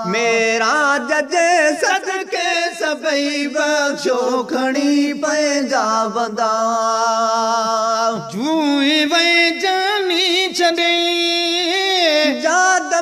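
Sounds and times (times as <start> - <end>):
man singing a held vowel: 0.0 - 13.0.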